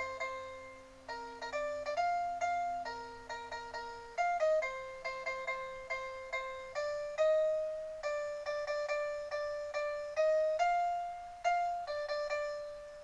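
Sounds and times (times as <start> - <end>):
toy electronic piano tune: 0.0 - 13.0.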